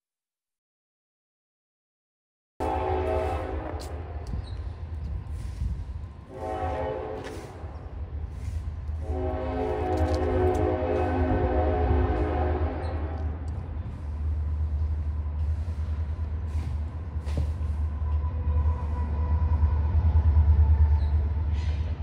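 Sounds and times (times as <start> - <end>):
train rumbling past: 2.6 - 22.0.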